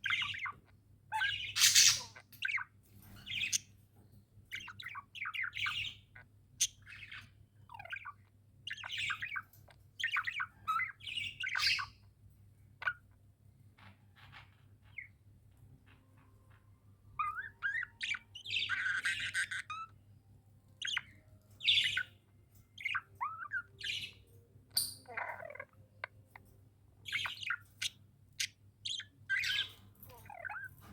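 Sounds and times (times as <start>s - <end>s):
budgerigars chirping: 0.0s - 3.8s, 4.5s - 12.1s, 13.8s - 15.2s, 17.1s - 20.0s, 20.8s - 30.9s.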